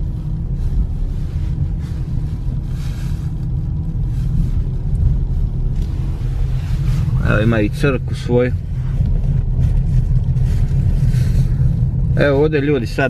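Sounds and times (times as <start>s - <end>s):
car driving heard from inside: 0.0s - 13.0s.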